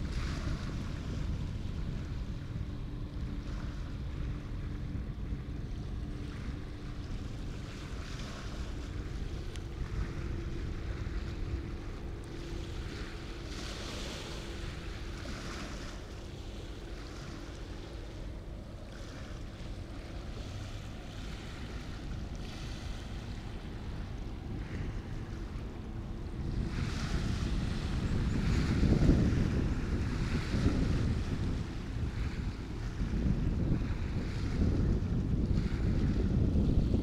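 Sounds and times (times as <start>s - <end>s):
steady low hum: 0.0s - 37.0s
water washing in surges: 0.0s - 37.0s
wind buffeting microphone: 0.0s - 37.0s.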